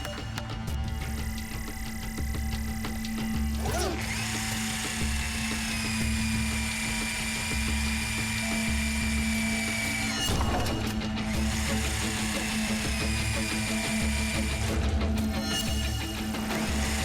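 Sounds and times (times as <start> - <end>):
background music with pulsing bass: 0.0 - 17.0
high machine-like whine: 0.0 - 17.0.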